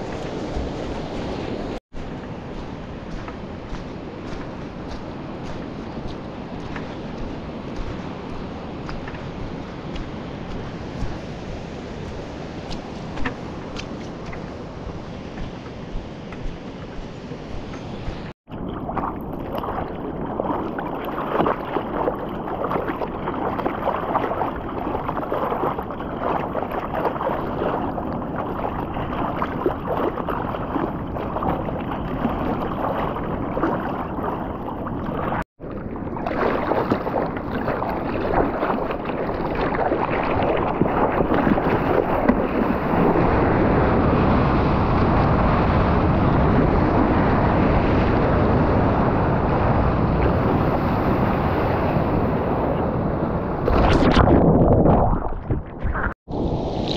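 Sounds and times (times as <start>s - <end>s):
ocean water splashing and rushing: 0.0s - 56.9s
wind buffeting microphone: 0.0s - 56.9s.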